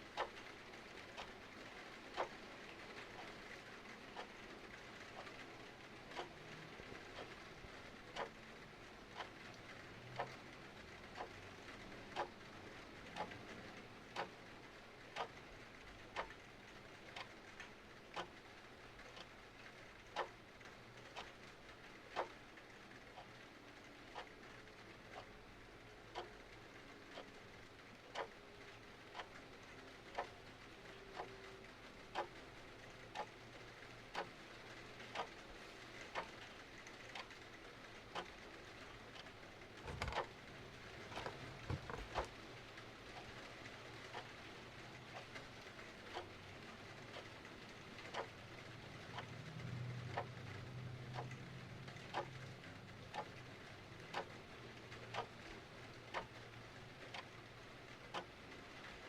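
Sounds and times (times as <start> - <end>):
clock ticking: 0.0 - 59.0
rain pattering: 0.0 - 59.0.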